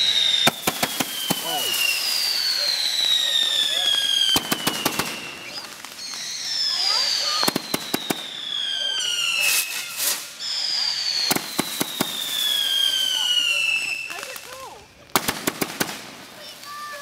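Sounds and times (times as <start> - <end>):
firework crackling burst: 0.0 - 17.0
firework cracks and bangs: 0.0 - 17.0
firework whistles: 0.0 - 17.0.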